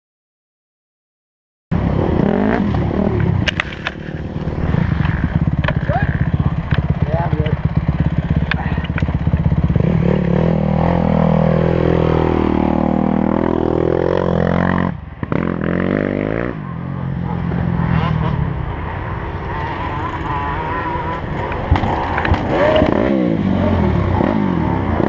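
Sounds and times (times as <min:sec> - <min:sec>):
dirt bike engine revving: 0:01.8 - 0:25.0.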